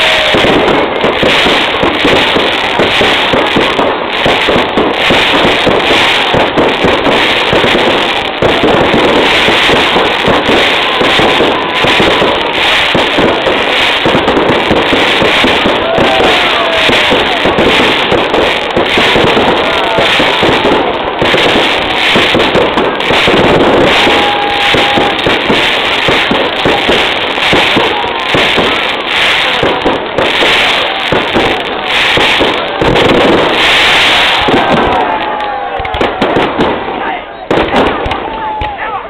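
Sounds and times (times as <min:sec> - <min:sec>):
fireworks and firecrackers crackling: 0:00.0 - 0:39.0.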